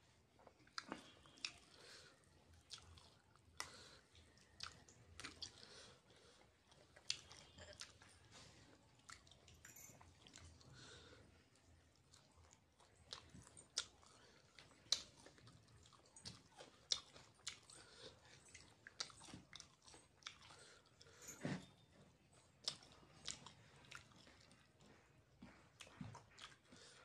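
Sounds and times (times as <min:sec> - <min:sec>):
person chewing fried chicken: 0:00.4 - 0:21.2, 0:22.2 - 0:27.0.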